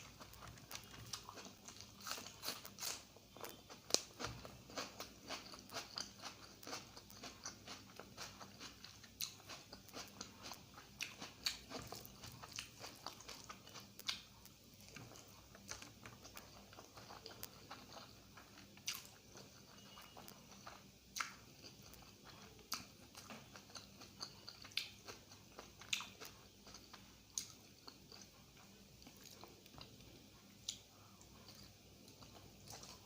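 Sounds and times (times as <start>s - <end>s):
chewing and biting food: 0.0s - 33.0s.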